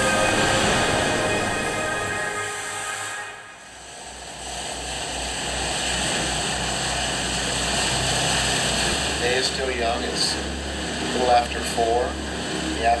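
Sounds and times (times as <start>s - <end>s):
boat engine throbbing: 0.0s - 13.0s
wind and water rushing: 0.0s - 13.0s.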